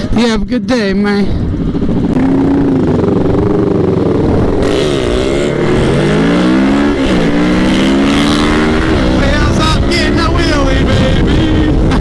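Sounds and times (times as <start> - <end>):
wind rushing: 1.3 - 12.0
motorcycle engine accelerating: 1.4 - 12.0.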